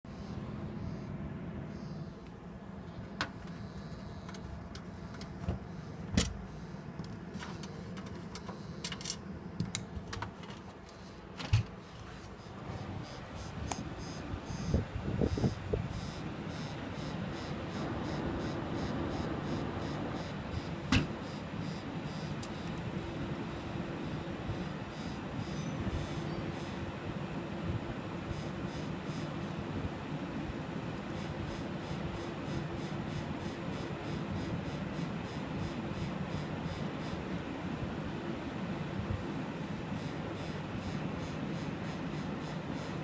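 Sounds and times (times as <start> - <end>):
cooling fans humming: 0.0 - 43.0
fan rattling grating noise: 0.1 - 43.0.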